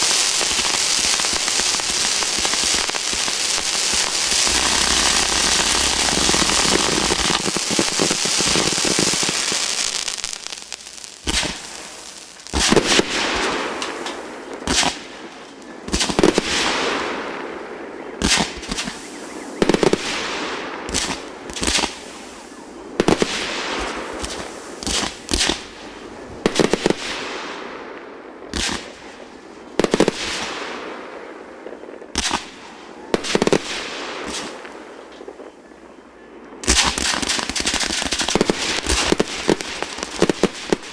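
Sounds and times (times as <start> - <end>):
fireworks bangs: 0.0 - 35.6, 36.6 - 40.9
fireworks crackling: 0.0 - 35.6, 36.6 - 40.9.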